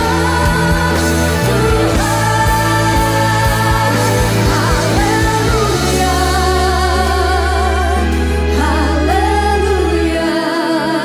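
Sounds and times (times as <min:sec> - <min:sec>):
keyboard and guitar band: 0:00.0 - 0:11.0
women singing with vibrato: 0:00.0 - 0:11.0.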